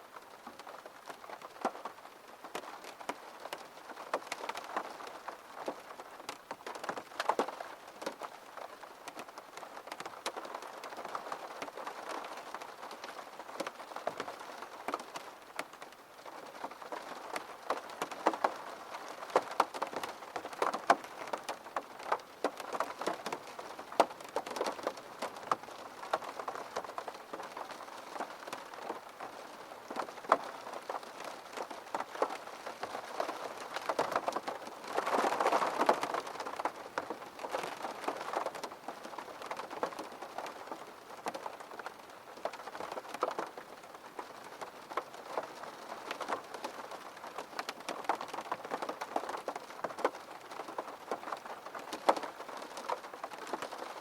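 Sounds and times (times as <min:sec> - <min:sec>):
rain drops tapping on hard surface: 0:00.1 - 0:54.0.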